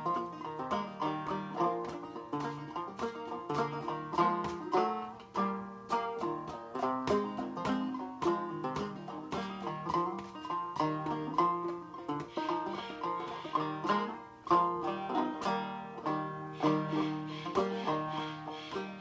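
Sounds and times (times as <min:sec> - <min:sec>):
banjo plucked notes: 0:00.0 - 0:19.0.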